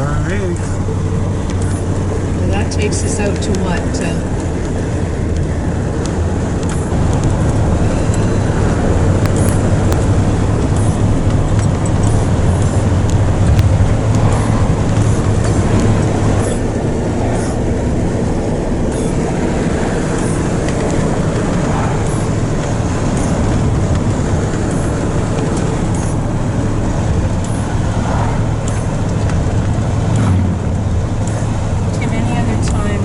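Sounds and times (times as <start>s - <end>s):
road and tyre noise: 0.0s - 33.0s
truck engine hum: 0.0s - 33.0s.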